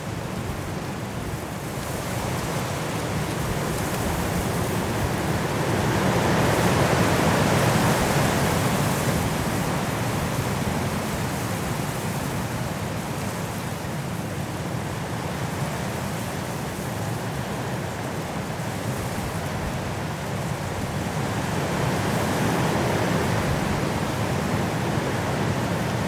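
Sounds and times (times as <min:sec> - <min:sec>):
strong wind through trees: 0:00.0 - 0:26.0.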